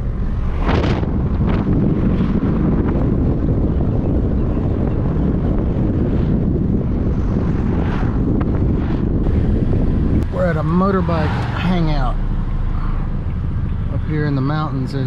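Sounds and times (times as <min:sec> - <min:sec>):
vehicle driving rumble: 0:00.0 - 0:15.0
wind buffeting microphone: 0:00.0 - 0:15.0.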